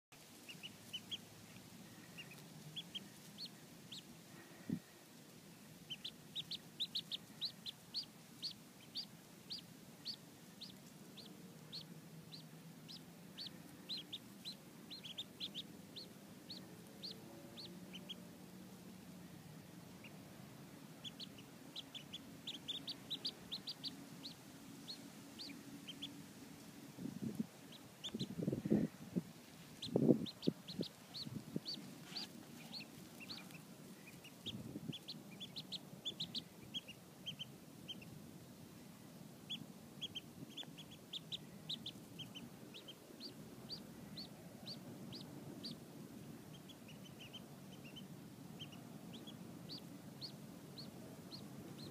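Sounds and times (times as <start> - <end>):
ducklings peeping: 0.2 - 51.9.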